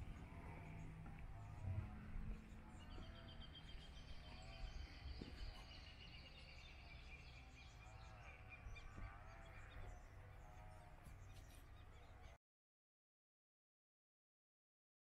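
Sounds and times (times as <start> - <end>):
birds calling: 0.0 - 12.4.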